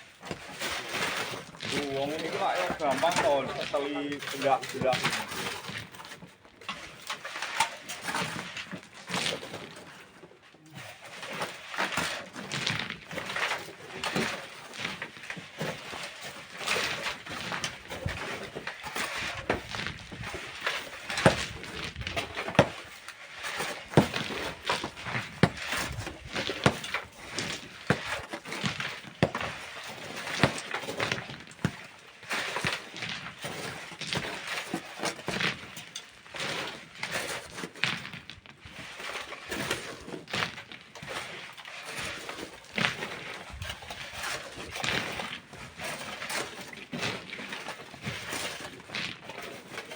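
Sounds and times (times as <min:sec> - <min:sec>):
hand tools scraping and knocking stone: 0:00.0 - 0:49.9.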